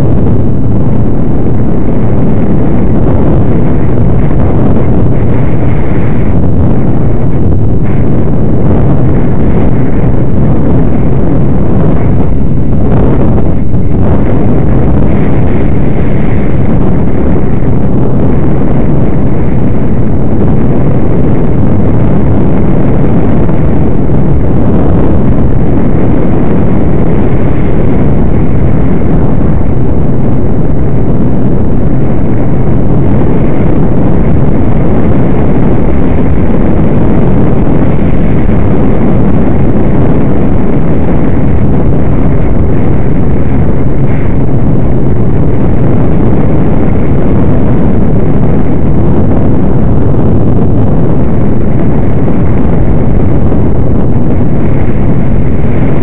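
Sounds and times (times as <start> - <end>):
rushing wind on microphone: 0.0 - 56.0.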